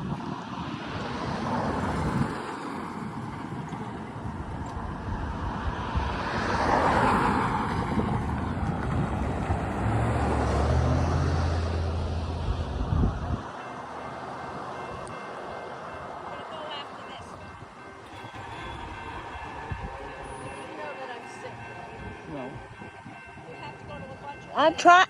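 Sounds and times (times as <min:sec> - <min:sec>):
freight train rumbling by: 0:00.0 - 0:25.0.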